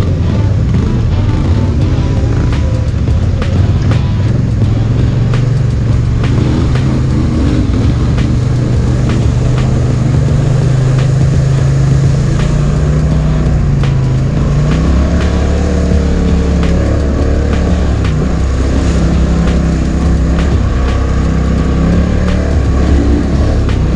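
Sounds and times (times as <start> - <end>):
atv engine running: 0.0 - 23.9
sharp knocks and ticks: 0.0 - 23.9.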